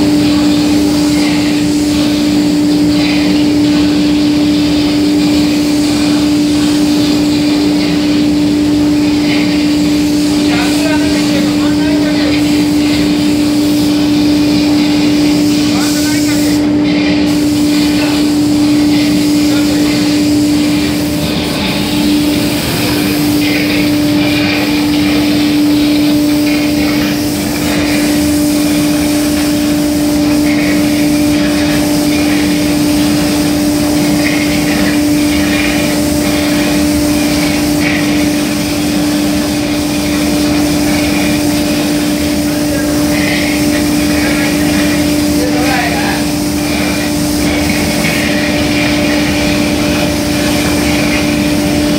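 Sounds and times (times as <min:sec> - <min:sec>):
spray booth machinery humming: 0:00.0 - 0:51.9.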